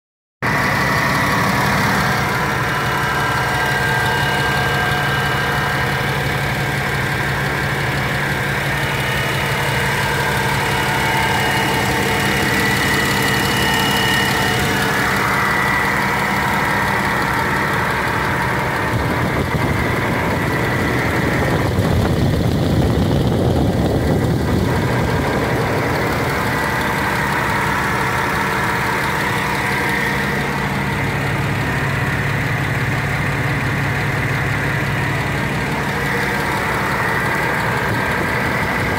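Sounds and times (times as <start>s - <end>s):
diesel bus engine idling: 0.4s - 38.9s.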